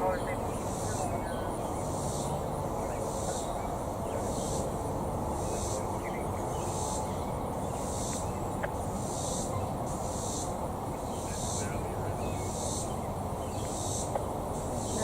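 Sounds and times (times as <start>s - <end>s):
insects buzzing in pulses: 0.0s - 15.0s.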